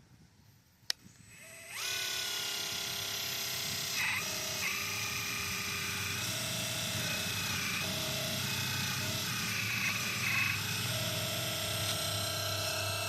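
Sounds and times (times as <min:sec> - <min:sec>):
hydraulic pump motor whine: 0:01.2 - 0:13.0.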